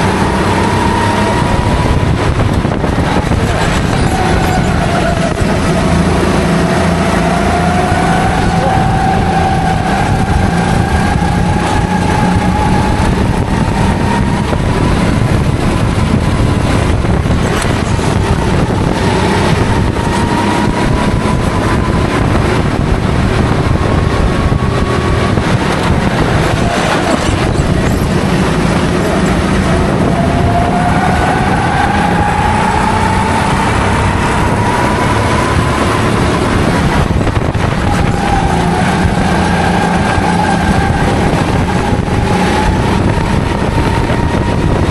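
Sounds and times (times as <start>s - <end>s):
go-kart engine revving: 0.0s - 44.9s.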